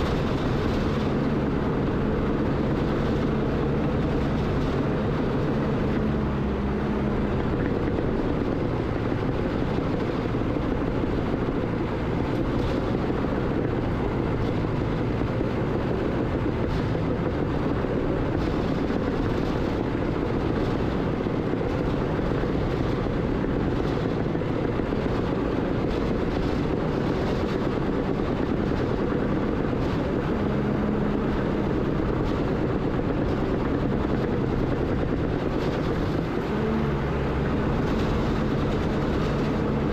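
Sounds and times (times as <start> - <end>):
heavy machine engine rumbling: 0.0 - 39.9.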